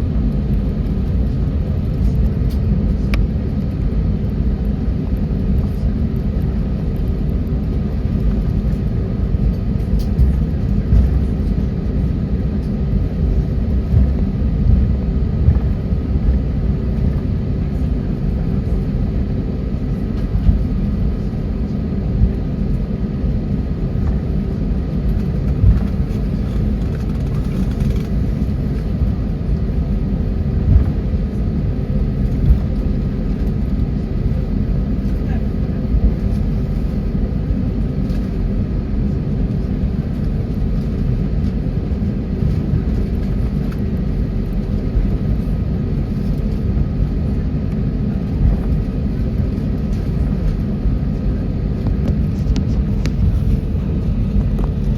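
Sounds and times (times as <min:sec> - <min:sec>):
constant hum tones: 0:00.0 - 0:54.9
jet engines at low thrust: 0:00.0 - 0:54.9.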